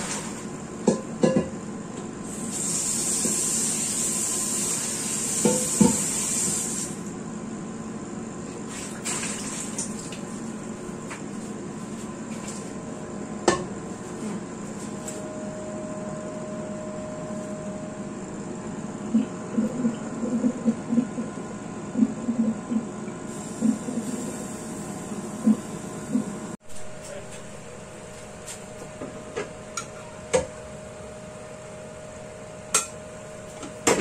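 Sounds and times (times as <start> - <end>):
low kitchen hum: 0.0 - 34.0.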